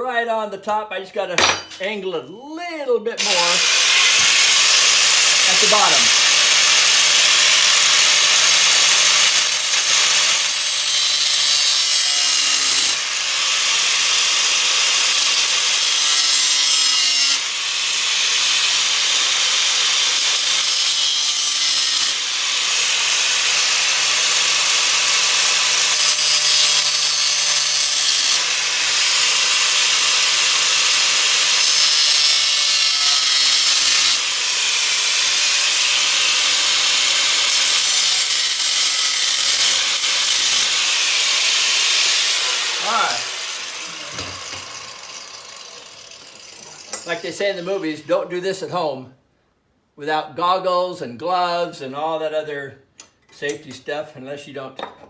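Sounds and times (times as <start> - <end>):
electric grinder grinding metal: 3.2 - 47.8.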